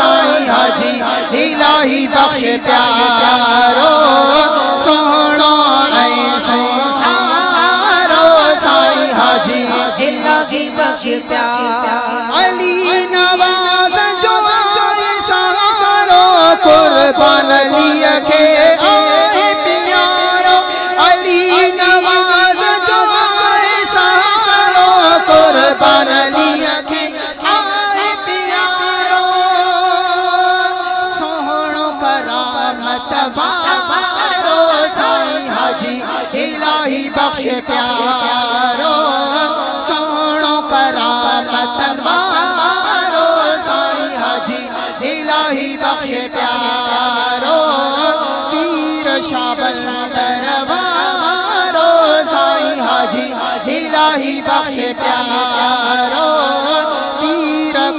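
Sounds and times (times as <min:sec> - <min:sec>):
man singing devotional song: 0:00.0 - 0:57.9.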